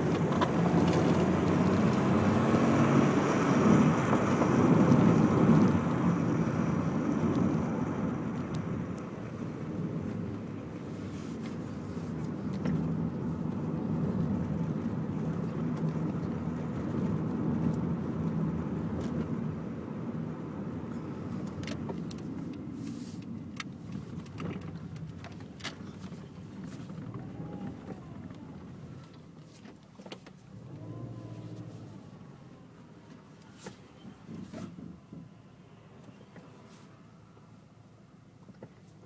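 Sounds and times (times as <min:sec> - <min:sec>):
car engine running: 0:00.0 - 0:34.9
road noise: 0:00.0 - 0:39.0.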